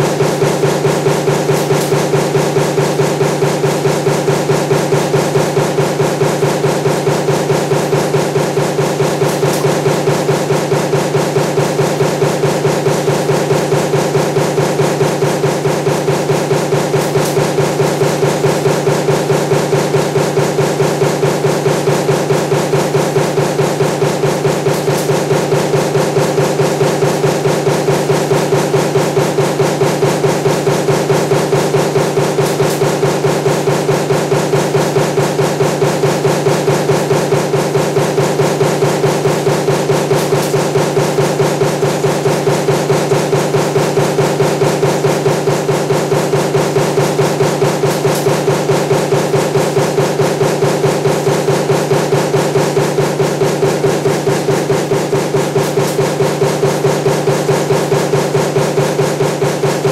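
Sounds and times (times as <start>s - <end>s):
punch press stamping: 0.0s - 59.9s
steady machine hum: 0.0s - 59.9s.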